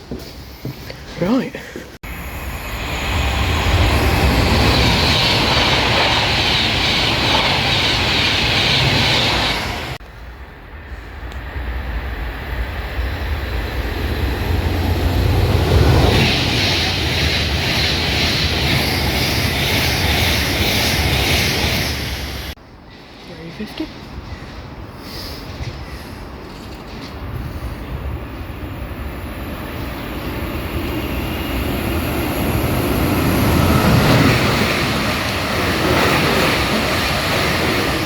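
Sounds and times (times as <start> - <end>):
rail and wheel hiss: 0.0 - 38.0
train passing at speed: 2.0 - 38.0.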